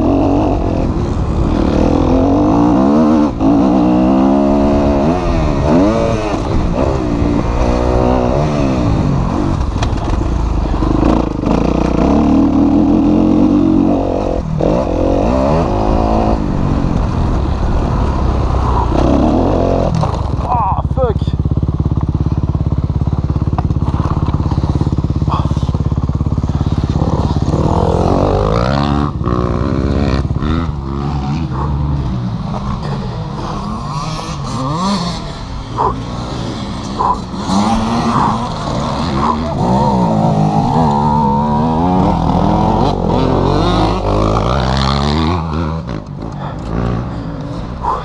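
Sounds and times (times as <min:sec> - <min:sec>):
motocross engine revving: 0:00.0 - 0:48.0.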